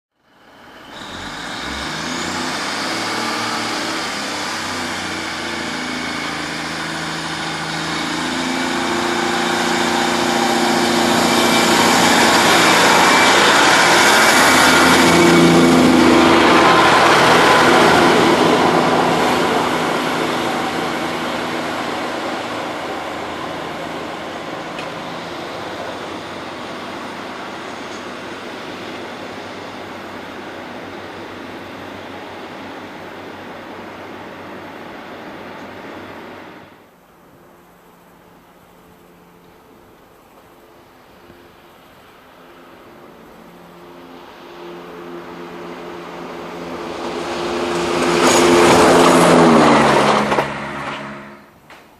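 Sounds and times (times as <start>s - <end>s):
diesel engine hum: 0.2s - 51.7s
wheels rushing on rail: 0.2s - 51.9s.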